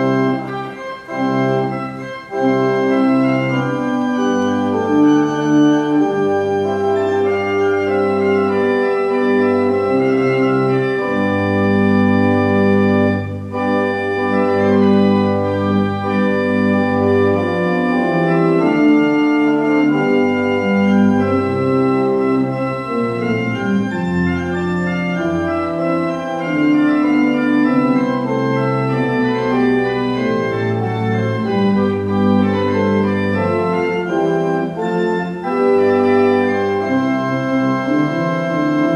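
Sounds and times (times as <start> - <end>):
organ playing sustained chords: 0.0 - 38.9.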